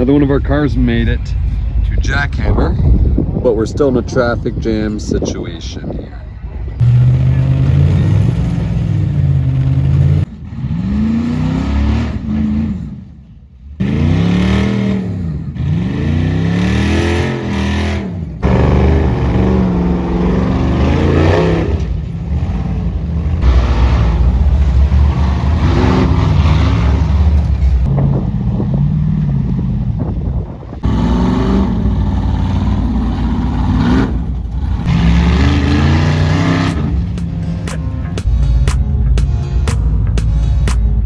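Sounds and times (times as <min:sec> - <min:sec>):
buggy engines revving: 0:00.0 - 0:41.0.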